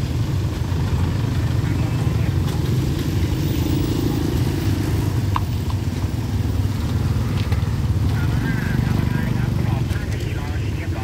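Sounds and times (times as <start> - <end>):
vehicles driving past: 0.0 - 11.0.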